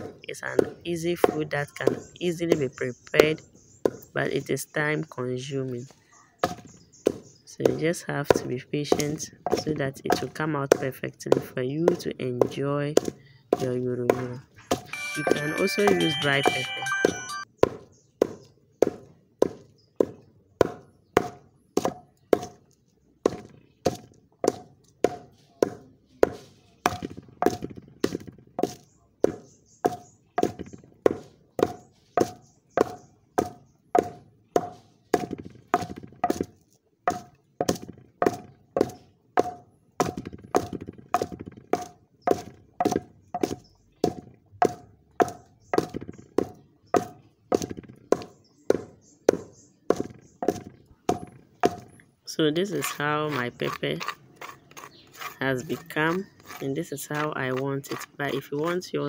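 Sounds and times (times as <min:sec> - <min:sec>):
pestle pounding in a mortar: 0:00.0 - 0:05.1, 0:05.7 - 0:59.0.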